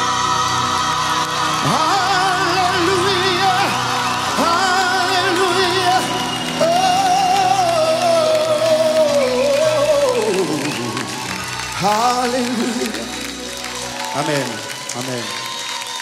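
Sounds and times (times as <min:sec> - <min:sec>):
voices singing with vibrato: 0:00.0 - 0:13.3
keyboard accompaniment: 0:00.0 - 0:16.0.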